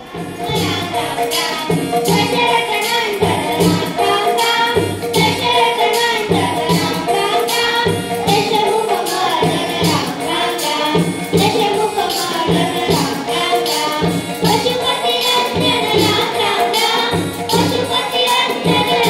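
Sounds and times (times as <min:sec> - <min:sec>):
children singing through microphones: 0:00.0 - 0:19.0
tabla beating: 0:00.0 - 0:19.0.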